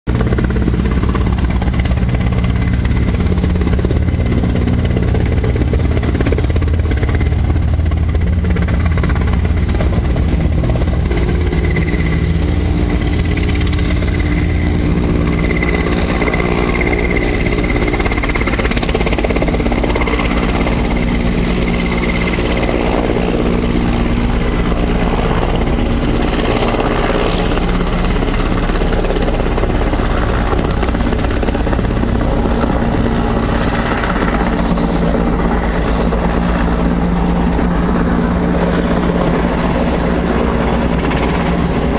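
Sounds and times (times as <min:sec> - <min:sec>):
helicopter flying overhead: 0:00.1 - 0:41.9.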